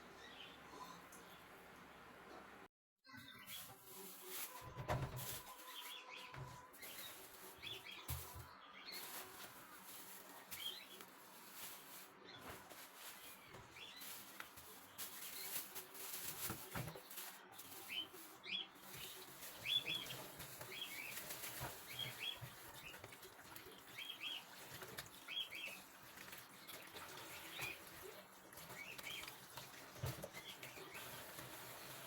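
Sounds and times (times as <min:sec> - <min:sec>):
small birds chirping: 0:03.1 - 0:32.0.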